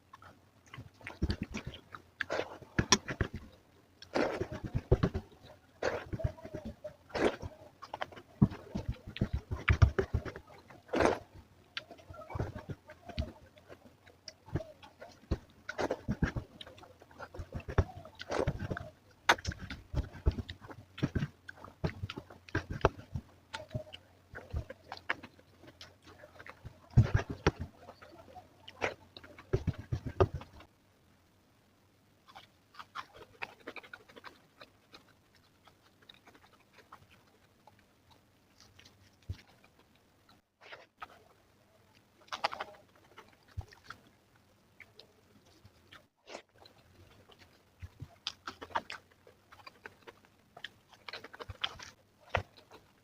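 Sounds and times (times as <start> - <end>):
close-miked chewing and mouth smacks: 0.0 - 30.7, 32.2 - 53.0.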